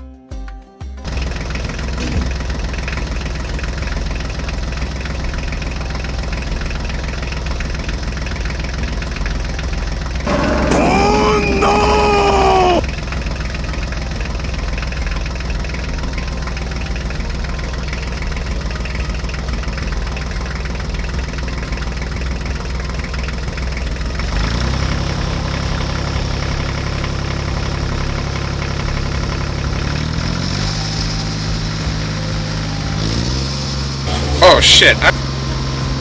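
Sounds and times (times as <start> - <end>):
tractor engine running: 1.1 - 36.0.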